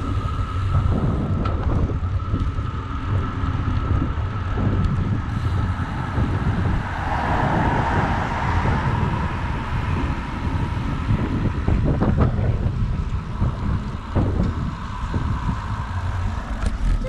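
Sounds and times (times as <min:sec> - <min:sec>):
city traffic hum: 0:00.0 - 0:17.0
wind buffeting microphone: 0:00.0 - 0:17.0.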